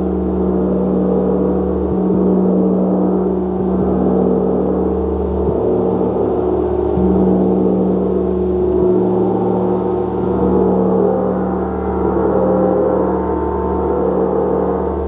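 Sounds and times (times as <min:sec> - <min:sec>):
gong sounding continuously: 0:00.0 - 0:15.0.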